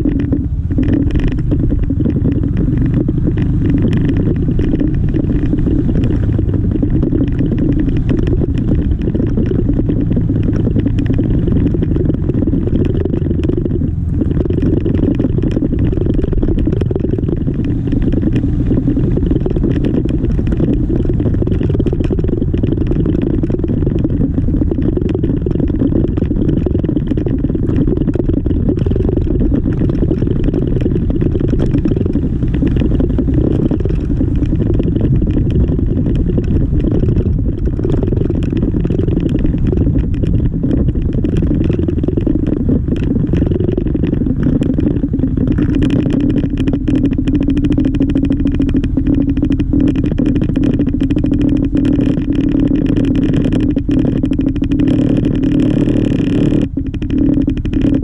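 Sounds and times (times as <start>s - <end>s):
road and wind noise: 0.0s - 58.0s
scooter engine running: 0.0s - 58.0s.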